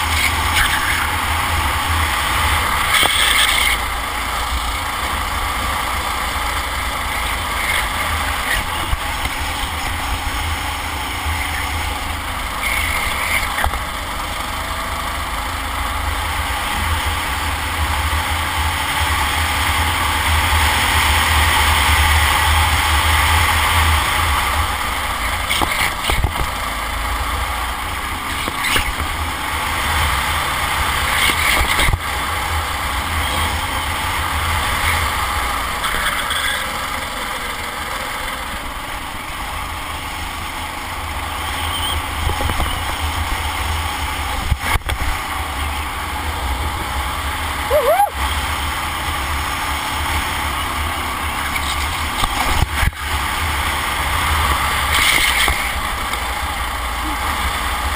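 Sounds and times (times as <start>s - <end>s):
go-kart engine racing: 0.0s - 57.9s.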